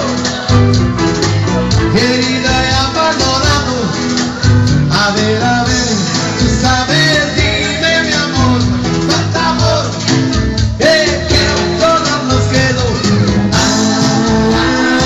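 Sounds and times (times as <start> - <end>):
latin rock song with guitar: 0.0 - 15.0.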